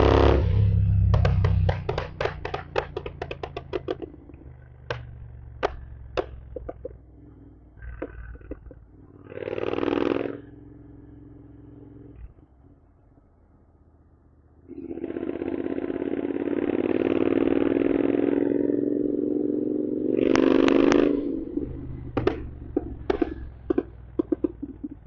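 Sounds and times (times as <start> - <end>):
exhaust popping and crackling: 0.0 - 13.8, 14.6 - 25.0
motorcycle engine revving and idling: 0.0 - 25.0.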